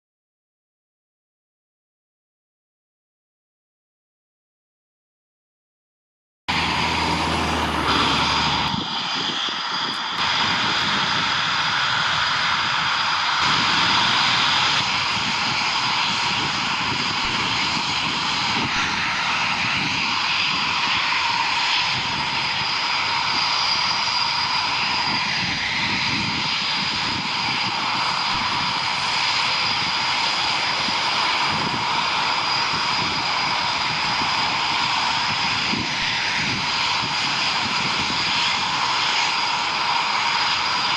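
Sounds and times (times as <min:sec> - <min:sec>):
high turbine whine: 0:06.5 - 0:40.9
jet engines roaring: 0:06.5 - 0:40.9.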